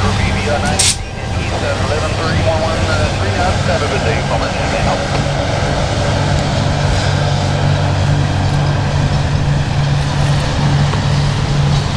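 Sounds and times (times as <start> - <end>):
locomotive low hum: 0.0 - 11.9
train rumble: 0.0 - 11.9.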